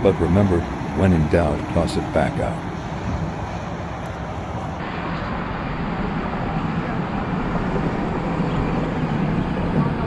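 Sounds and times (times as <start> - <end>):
constant low hum: 0.0 - 10.0
road traffic rumble: 0.0 - 10.0.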